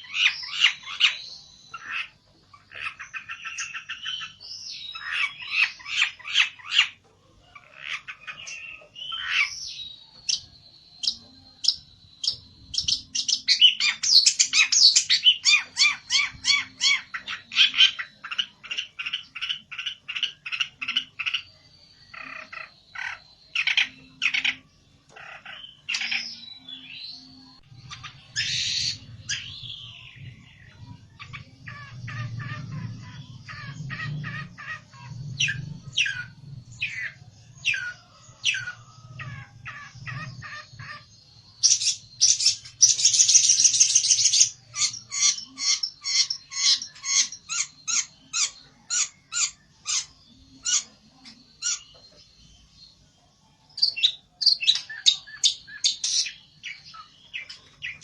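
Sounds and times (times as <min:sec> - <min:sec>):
songbird chirping agitatedly: 0:00.0 - 0:58.0.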